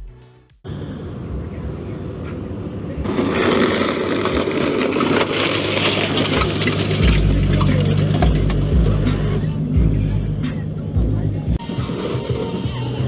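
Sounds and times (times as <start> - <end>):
noisy background: 0.0 - 13.0
deep steady rumble: 0.7 - 13.0
vehicle engine idling: 0.7 - 13.0.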